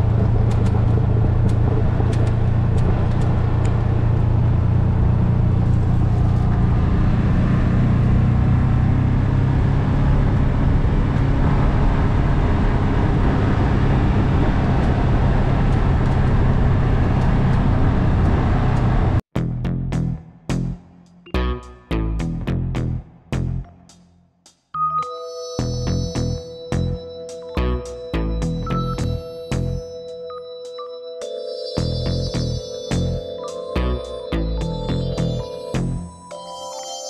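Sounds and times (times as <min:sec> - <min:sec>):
utility vehicle engine droning: 0:00.0 - 0:23.7, 0:25.4 - 0:37.0.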